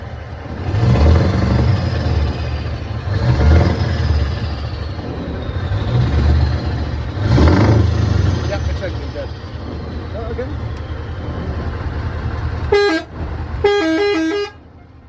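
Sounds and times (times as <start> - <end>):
diesel truck engine revving: 0.0 - 15.0.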